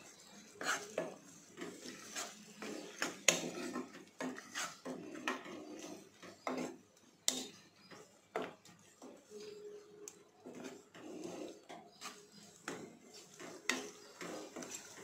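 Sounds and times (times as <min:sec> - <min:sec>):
ladle scraping a pot: 0:00.0 - 0:15.0.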